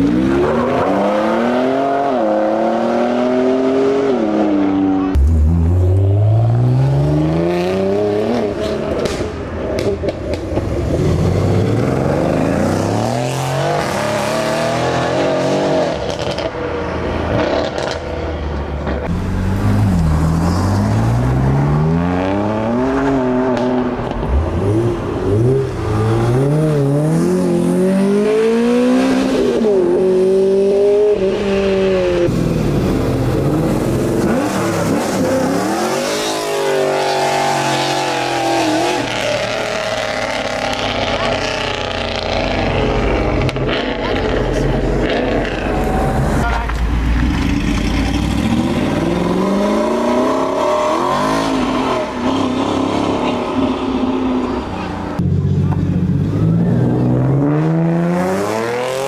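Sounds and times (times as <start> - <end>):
cars accelerating hard: 0.0 - 59.0.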